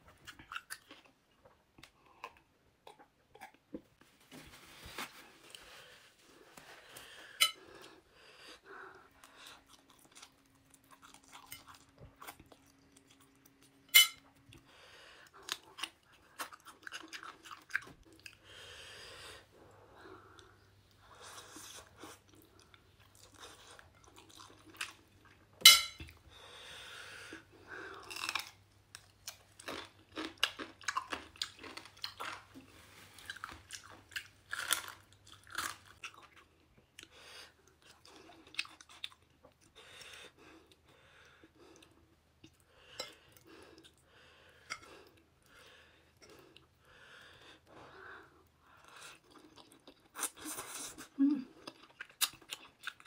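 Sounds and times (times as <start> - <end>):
person chewing food: 0.1 - 4.0, 5.4 - 53.0.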